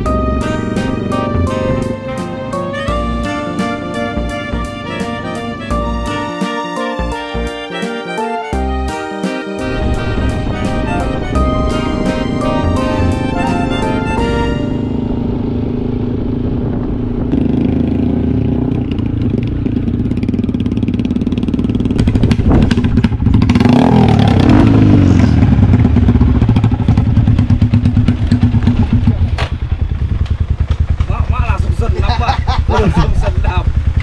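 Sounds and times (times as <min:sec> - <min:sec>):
motorcycle engine running: 0:00.0 - 0:06.4, 0:09.6 - 0:34.0.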